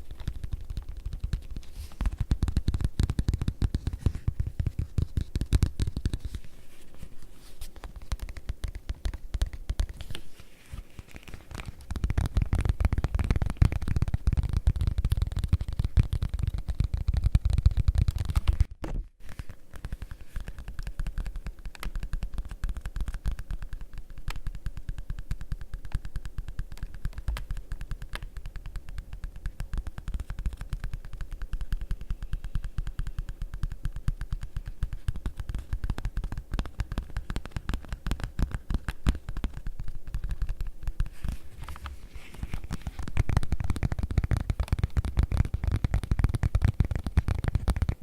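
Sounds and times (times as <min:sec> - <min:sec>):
fingertips tapping on leather: 0:00.0 - 0:18.7, 0:19.4 - 0:48.0.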